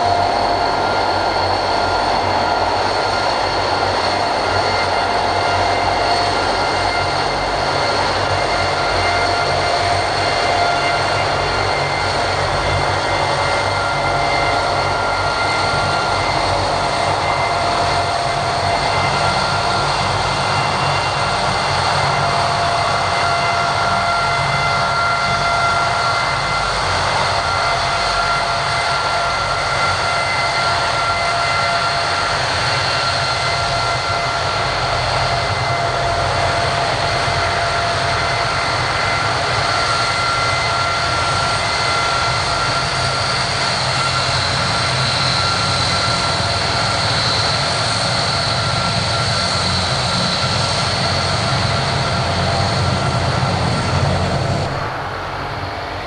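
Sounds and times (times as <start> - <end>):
rushing engine noise: 0.0 - 56.0
turboprop engines whining: 0.0 - 56.0.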